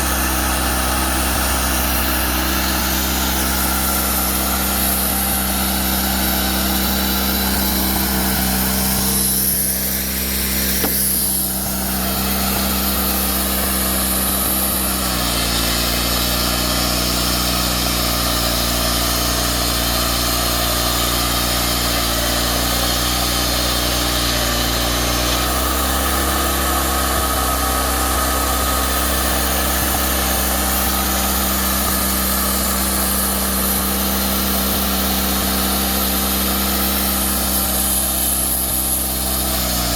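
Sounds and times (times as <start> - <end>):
portable sawmill running: 0.0 - 39.9.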